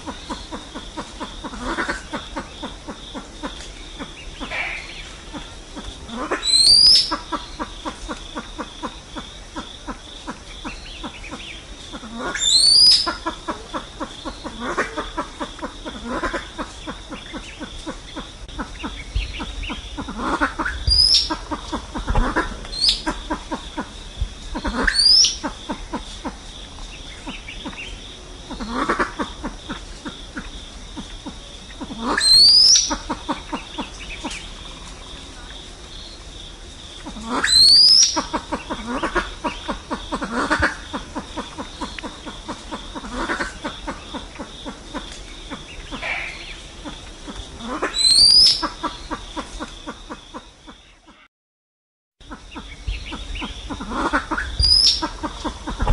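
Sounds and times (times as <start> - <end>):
pheasant calling: 0.0 - 26.4, 27.0 - 35.0, 37.0 - 51.2, 52.3 - 55.9
steady high hum: 0.0 - 51.1, 52.2 - 55.9.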